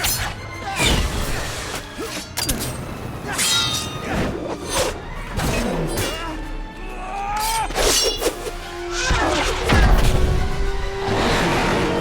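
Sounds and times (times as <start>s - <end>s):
action score music: 0.0s - 12.0s.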